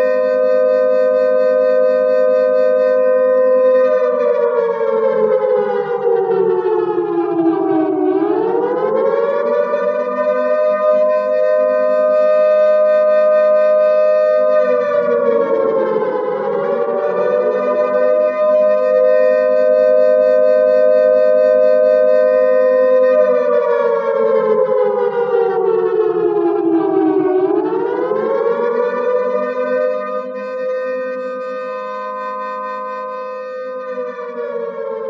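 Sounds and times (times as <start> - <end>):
air-raid siren wailing: 0.0 - 35.0.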